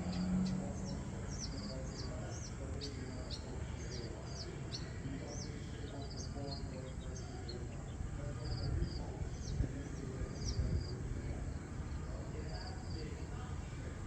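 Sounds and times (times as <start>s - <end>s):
birds chirping: 0.0s - 14.0s
low background rumble: 0.0s - 14.0s.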